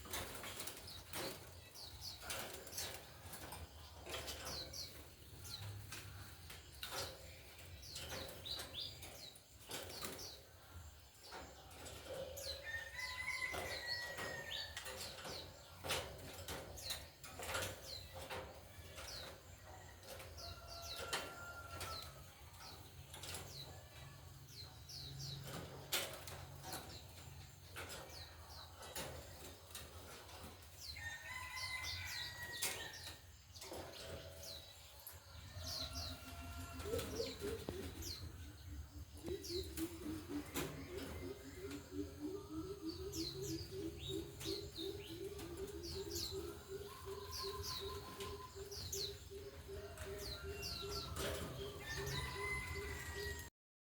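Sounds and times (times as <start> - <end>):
songbirds chirping: 0.0 - 53.5.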